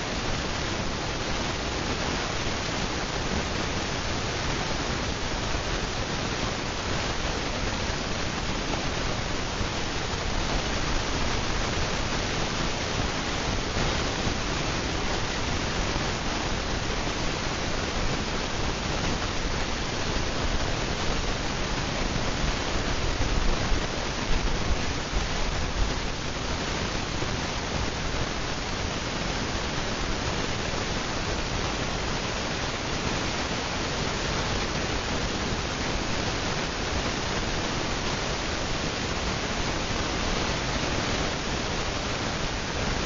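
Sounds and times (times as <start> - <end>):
ceiling fan whooshing: 0.0 - 43.0.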